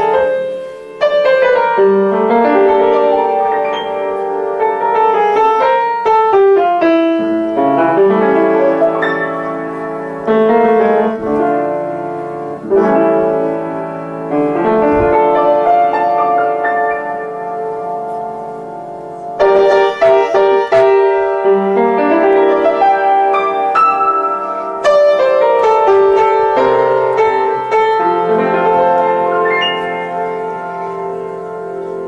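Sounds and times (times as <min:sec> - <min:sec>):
piano playing solo: 0:00.0 - 0:32.0.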